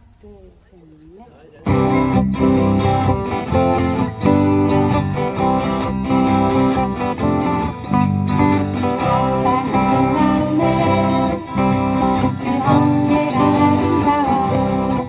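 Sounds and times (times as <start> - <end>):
acoustic guitars strumming: 1.6 - 15.0.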